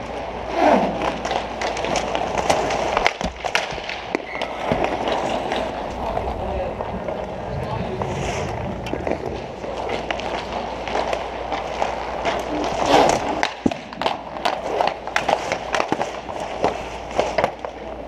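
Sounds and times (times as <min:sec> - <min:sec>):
sticks and puck clacking: 0:00.0 - 0:07.4, 0:08.0 - 0:18.0
skate wheels rolling on tiles: 0:00.0 - 0:18.0.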